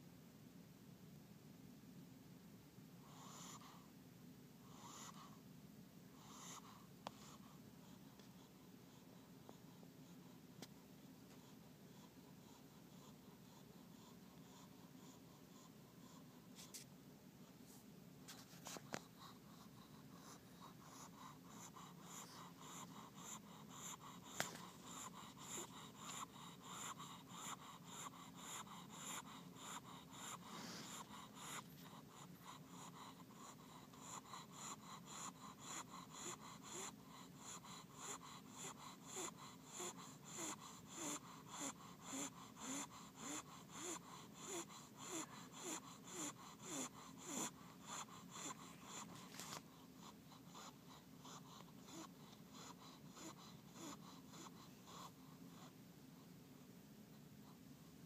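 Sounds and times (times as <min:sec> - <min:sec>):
dog snoring faintly: 0:03.0 - 0:04.0, 0:04.6 - 0:05.4, 0:06.1 - 0:16.8, 0:17.4 - 0:58.0.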